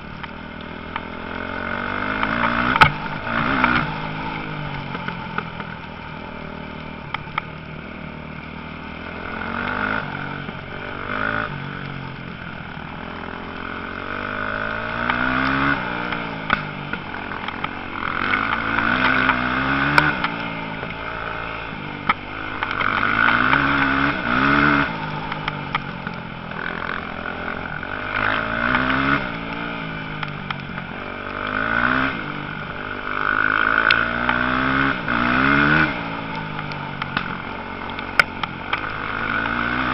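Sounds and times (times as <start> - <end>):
motocross engines revving: 0.7 - 7.1, 8.8 - 39.9.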